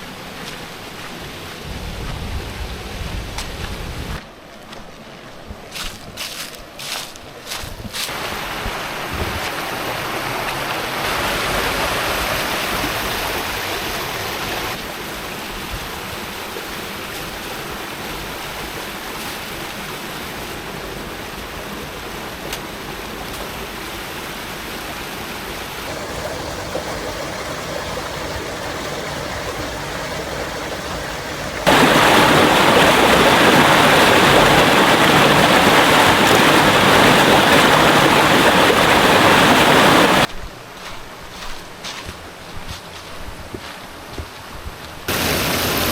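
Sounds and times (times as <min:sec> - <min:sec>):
creek water rushing over rocks: 0:00.0 - 0:45.9
waterfall: 0:00.0 - 0:45.9.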